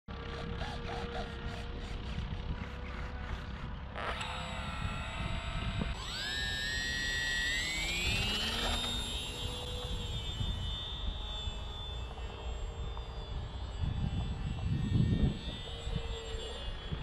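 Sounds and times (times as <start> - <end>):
electric motor propeller whine: 0.1 - 17.0.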